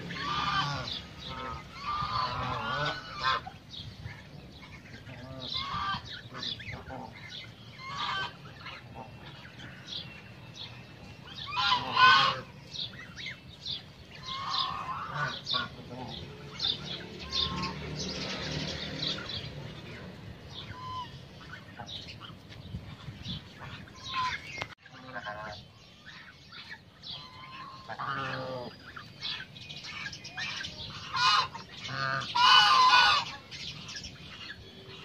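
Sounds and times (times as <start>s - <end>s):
geese honking: 0.0s - 35.0s.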